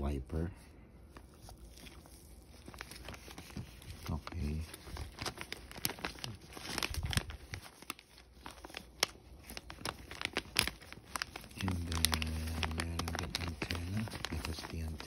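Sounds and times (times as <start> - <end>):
low steady hum: 0.0 - 15.0
plastic bags crinkling: 1.1 - 15.0.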